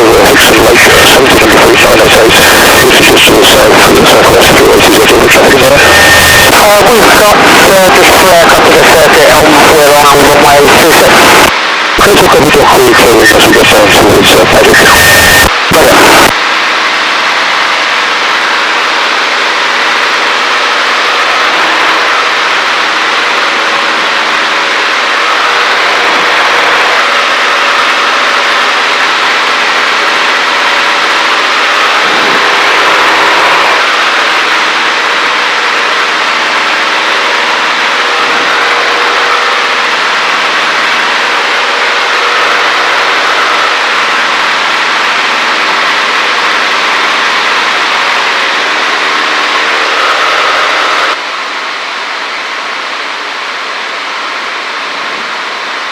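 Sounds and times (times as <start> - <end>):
airplane engine and propeller: 0.0 - 55.9.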